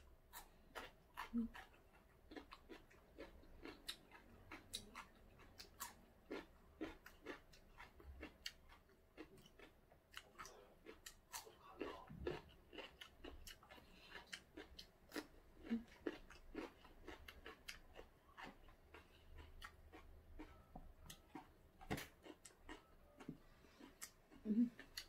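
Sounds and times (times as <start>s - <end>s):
chewing cucumber: 0.2s - 25.0s.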